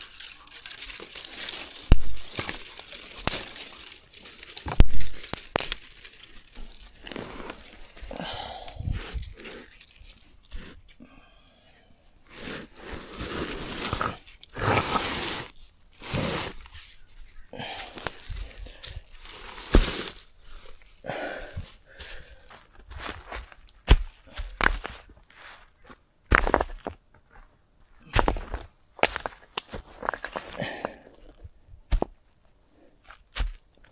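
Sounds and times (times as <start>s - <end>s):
rocks scraping on leaves and soil: 0.0s - 11.0s, 12.2s - 32.4s.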